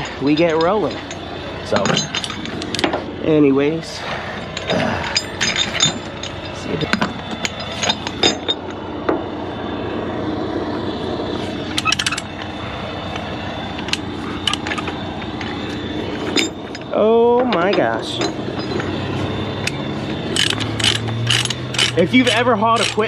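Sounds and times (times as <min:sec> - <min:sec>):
metal chains clanking: 0:00.0 - 0:09.0, 0:11.5 - 0:23.0
engine hum: 0:00.0 - 0:23.0.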